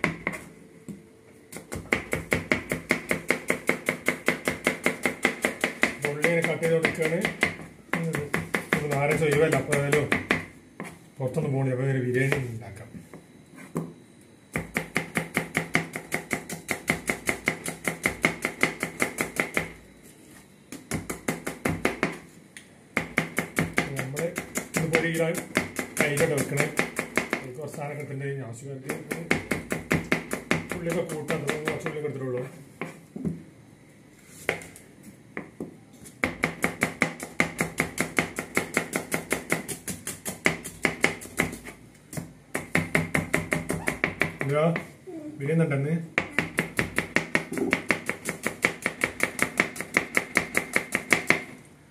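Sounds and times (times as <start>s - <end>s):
knife chopping onion on board: 0.0s - 11.0s, 13.8s - 19.8s, 20.7s - 22.2s, 23.0s - 28.0s, 28.8s - 33.4s, 34.4s - 34.8s, 35.4s - 44.9s, 46.2s - 51.5s.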